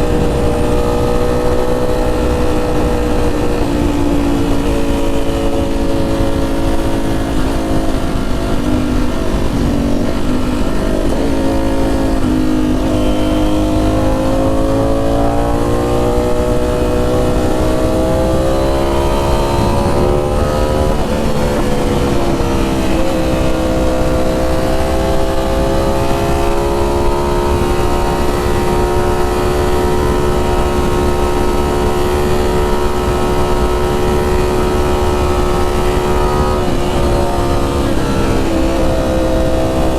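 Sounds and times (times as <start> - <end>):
motorcycle engine riding: 0.0 - 39.9
wind and road noise: 0.0 - 39.9.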